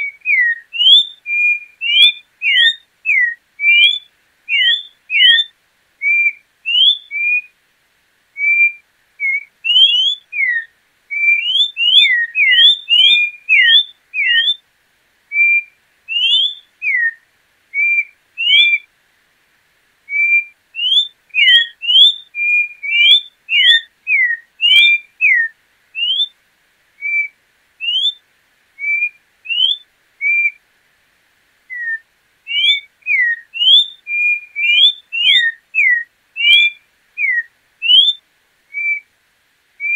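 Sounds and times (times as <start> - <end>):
bird singing whistled notes: 0.0 - 7.6, 8.4 - 14.6, 15.3 - 18.9, 20.1 - 26.4, 27.0 - 28.2, 28.8 - 30.6, 31.7 - 39.1.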